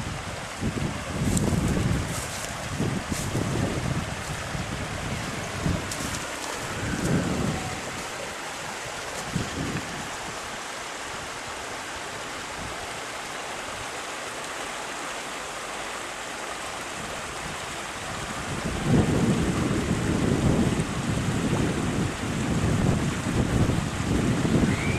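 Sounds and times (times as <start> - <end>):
wind buffeting microphone: 0.0 - 13.1, 16.9 - 24.9
rushing floodwater: 0.0 - 24.9.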